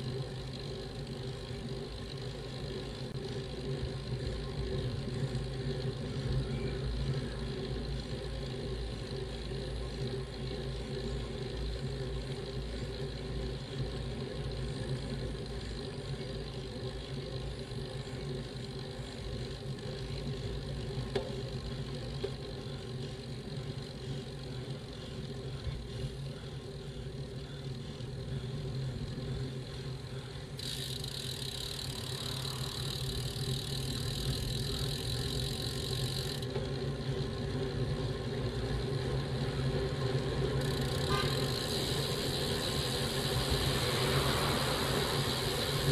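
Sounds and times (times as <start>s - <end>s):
low hum: 0.0s - 45.9s
tyres rumbling on road: 0.0s - 45.9s.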